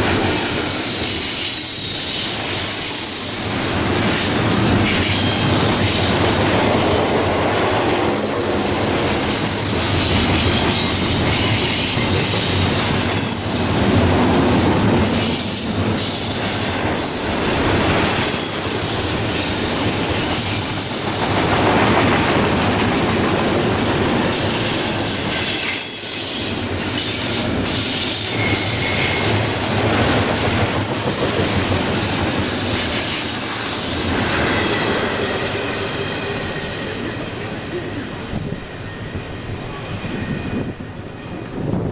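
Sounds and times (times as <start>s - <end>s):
freight train rolling past: 0.0s - 41.9s
wheels squealing on rails: 0.0s - 41.9s.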